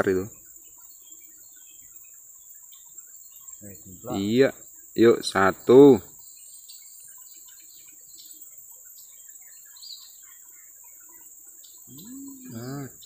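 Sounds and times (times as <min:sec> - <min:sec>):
bird chirps: 0:00.0 - 0:13.0
high-pitched insect drone: 0:00.0 - 0:13.0.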